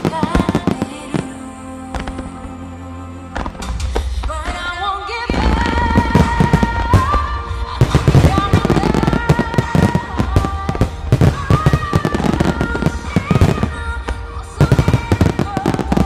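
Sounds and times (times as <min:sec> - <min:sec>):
song with sung melody: 0:00.0 - 0:16.0.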